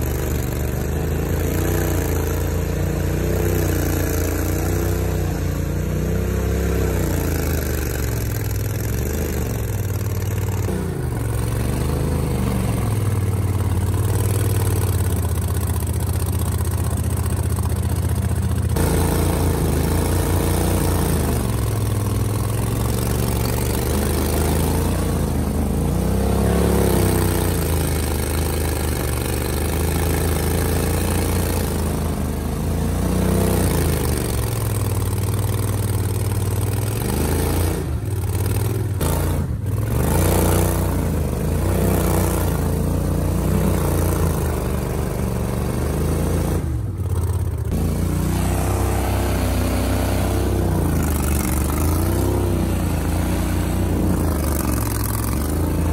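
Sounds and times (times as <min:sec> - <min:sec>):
mud motor revving: 0:00.0 - 0:55.9.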